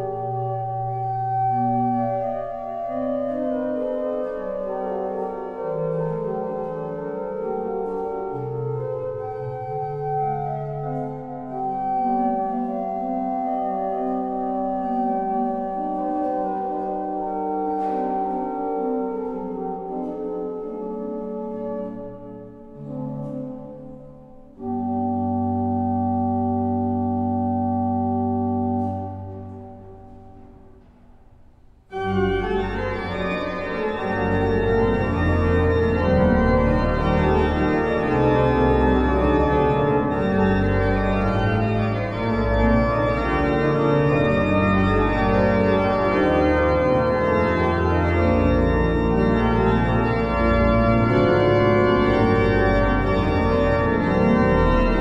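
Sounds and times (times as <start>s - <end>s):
pipe organ playing: 0.0s - 30.9s, 31.9s - 55.0s.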